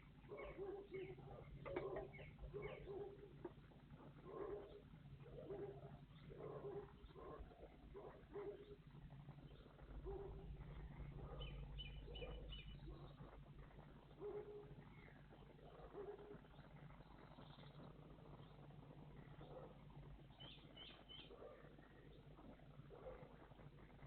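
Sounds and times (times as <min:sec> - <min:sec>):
steady low hum: 0:00.0 - 0:24.0
faint bird calls: 0:00.1 - 0:24.0.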